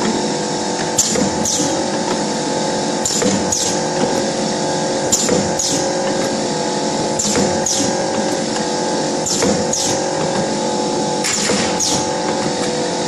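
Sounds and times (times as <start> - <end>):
machine mechanical hum: 0.0 - 13.0.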